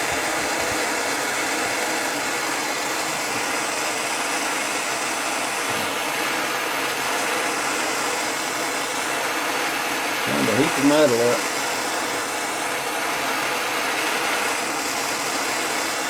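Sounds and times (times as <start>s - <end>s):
heating tool hissing: 0.0s - 16.0s.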